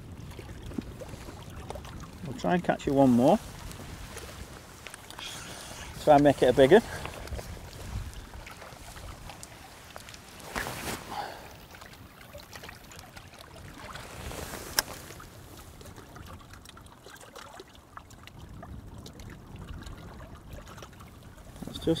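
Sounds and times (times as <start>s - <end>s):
water lapping at shore: 0.0s - 22.0s.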